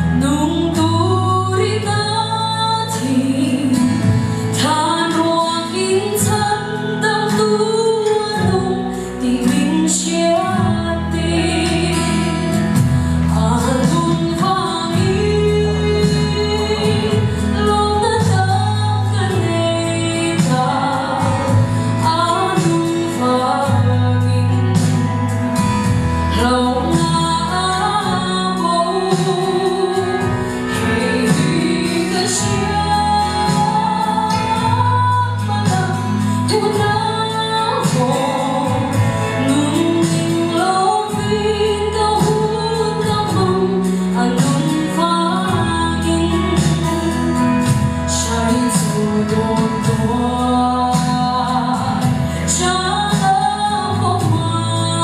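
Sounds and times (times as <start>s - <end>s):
instrumental backing with bass notes: 0.0s - 55.0s
woman singing into a microphone: 0.0s - 55.0s.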